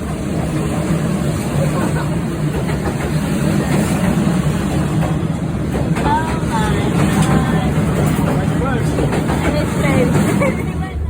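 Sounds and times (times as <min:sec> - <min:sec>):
train running: 0:00.0 - 0:11.0.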